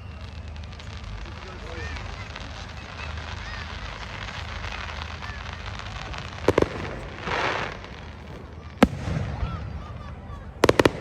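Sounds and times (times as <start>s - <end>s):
crowd murmuring: 0.0s - 11.0s
fireworks bangs: 0.0s - 11.0s
fireworks hissing crackle: 0.0s - 11.0s.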